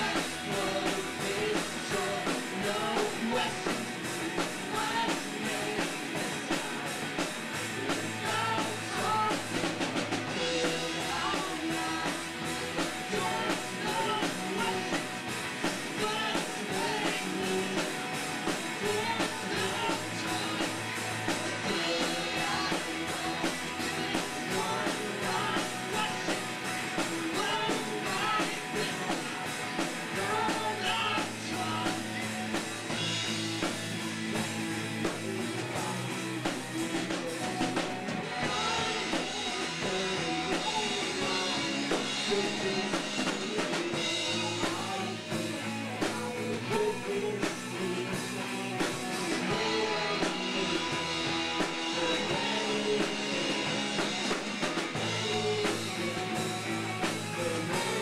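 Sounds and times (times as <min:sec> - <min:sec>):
person singing lead vocal: 0:00.0 - 0:34.0, 0:34.8 - 0:58.0
drum kit: 0:00.0 - 0:58.0
electric guitars: 0:00.0 - 0:58.0.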